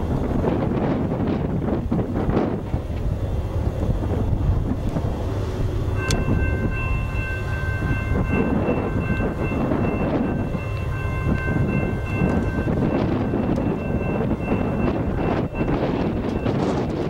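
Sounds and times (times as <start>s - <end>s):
distant freight train rumbling: 0.0s - 17.0s
wind buffeting microphone: 0.0s - 17.0s.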